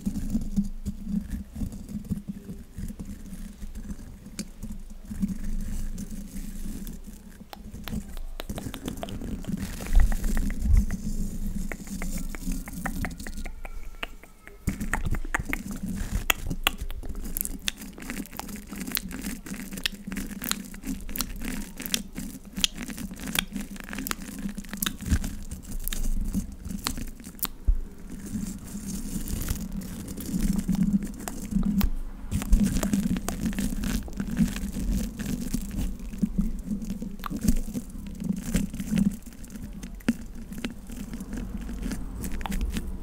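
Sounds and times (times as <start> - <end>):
brush scratching microphone grille: 0.0 - 43.0.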